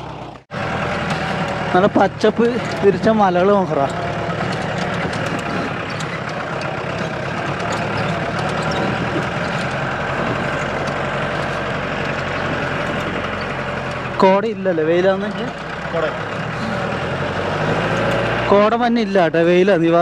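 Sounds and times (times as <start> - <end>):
jeep engine running under load: 0.0 - 20.0
rattles and knocks in vehicle: 0.1 - 19.3.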